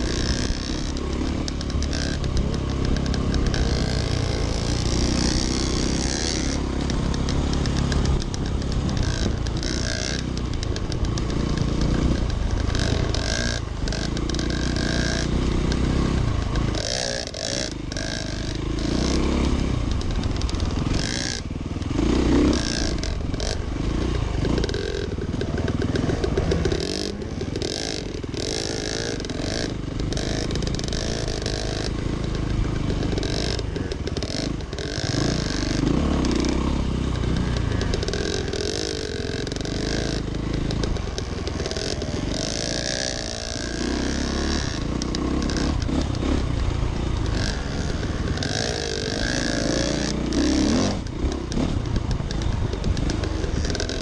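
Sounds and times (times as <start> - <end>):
bike clattering over bumps: 0.0 - 54.0
dirt bike engine revving: 0.0 - 54.0.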